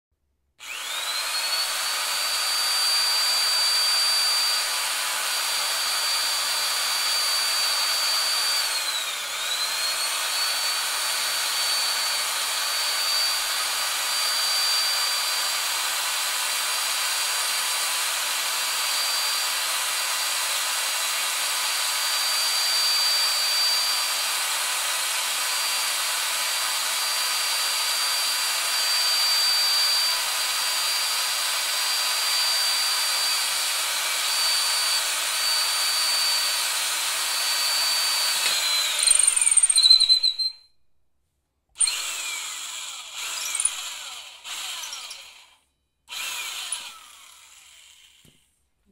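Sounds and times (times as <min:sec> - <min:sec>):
electric drill drilling into wood: 0:00.6 - 0:40.5, 0:41.8 - 0:48.4.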